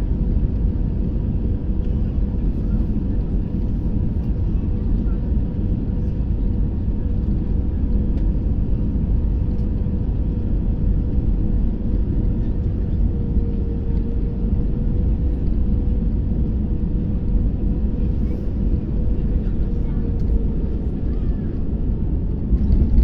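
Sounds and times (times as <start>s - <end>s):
airplane cabin engine rumble: 0.0s - 23.0s
engine whine: 0.2s - 23.0s.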